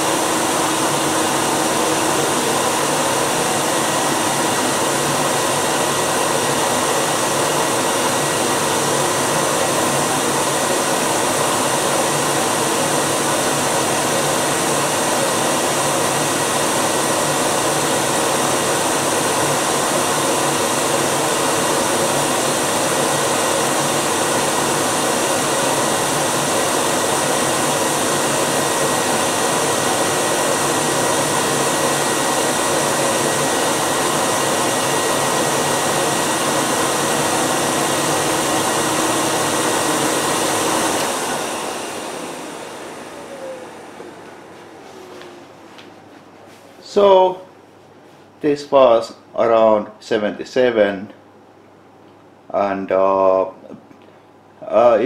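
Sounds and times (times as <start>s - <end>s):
vacuum cleaner air rushing: 0.0s - 47.5s.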